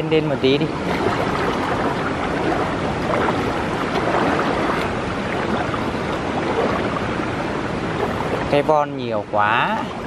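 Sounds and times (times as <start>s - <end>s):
stream rushing: 0.0s - 10.0s
water sloshing around wading person: 0.0s - 10.0s.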